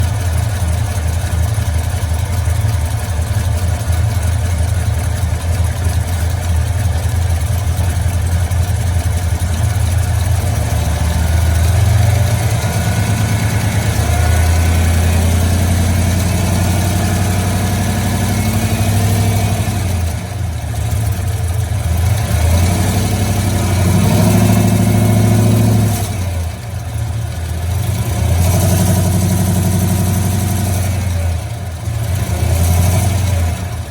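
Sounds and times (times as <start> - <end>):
truck engine idling and revving: 0.0 - 33.9.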